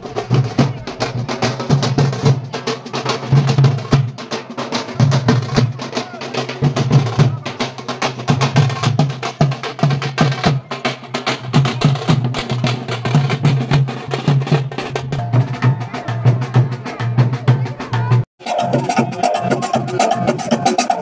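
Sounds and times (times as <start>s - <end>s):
drums beaten with sticks: 0.0s - 21.0s.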